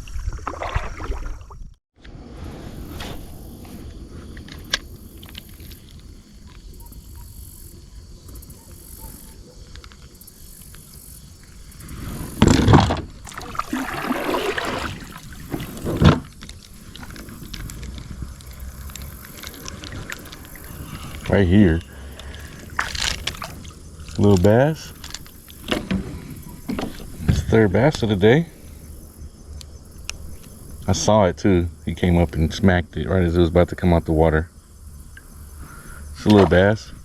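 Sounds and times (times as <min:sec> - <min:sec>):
wind and water rumble: 0:00.0 - 0:37.0.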